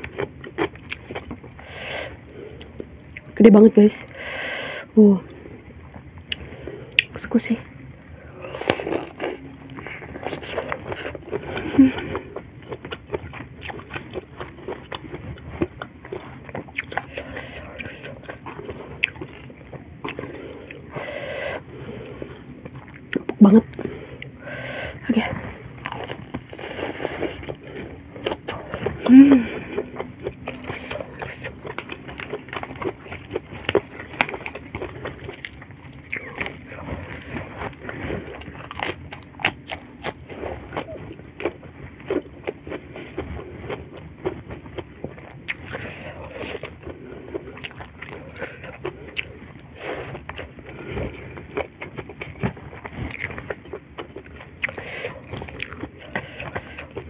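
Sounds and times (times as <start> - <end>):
crunchy chewing: 0.0 - 3.4, 8.0 - 57.0.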